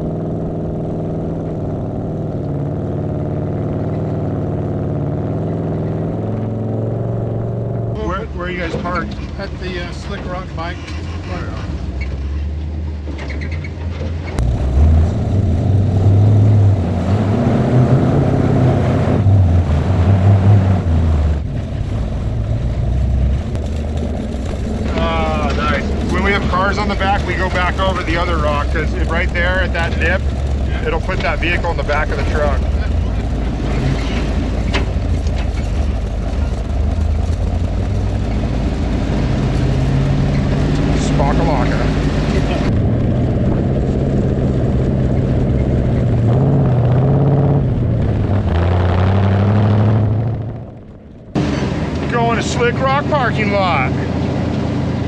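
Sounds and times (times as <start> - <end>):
truck engine under load: 0.0 - 55.0.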